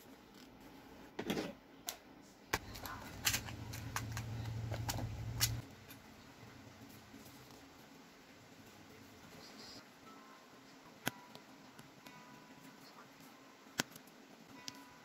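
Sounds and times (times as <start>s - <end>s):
low steady hum: 1.6s - 15.0s.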